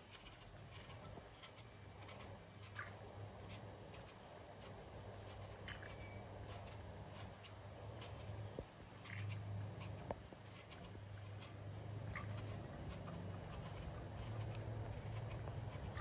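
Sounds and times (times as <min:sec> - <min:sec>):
knife paring apple skin: 0:00.0 - 0:16.0
low steady hum: 0:00.0 - 0:16.0.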